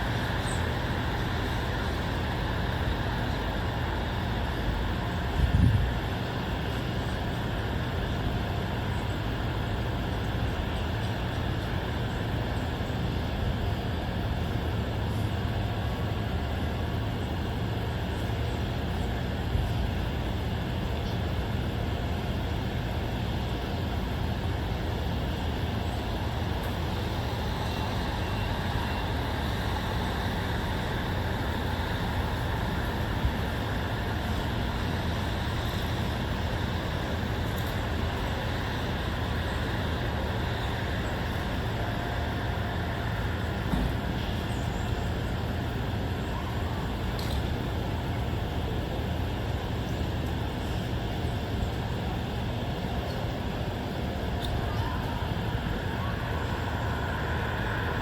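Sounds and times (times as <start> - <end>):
distant road traffic hum: 0.0 - 58.0.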